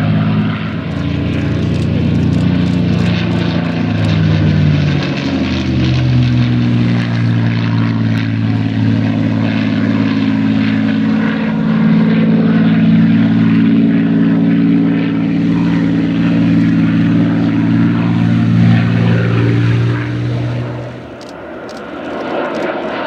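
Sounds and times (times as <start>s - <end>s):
piston engine plane drone: 0.0s - 23.0s.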